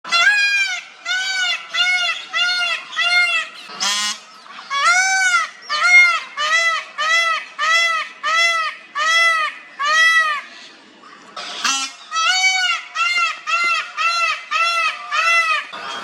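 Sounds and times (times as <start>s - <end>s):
peacock calling: 0.0s - 16.0s.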